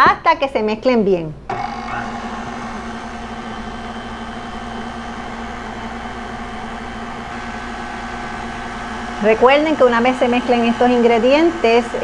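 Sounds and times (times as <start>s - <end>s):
stand mixer motor humming: 1.5s - 12.0s.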